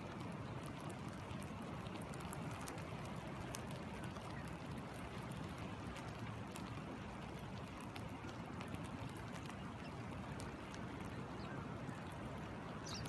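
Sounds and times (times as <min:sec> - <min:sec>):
rain drops on water: 0:00.0 - 0:13.0
stream water flowing: 0:00.0 - 0:13.0.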